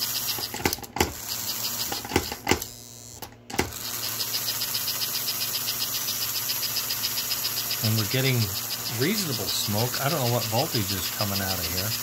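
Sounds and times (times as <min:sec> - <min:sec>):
toy locomotive motor ticking: 0:00.0 - 0:12.0.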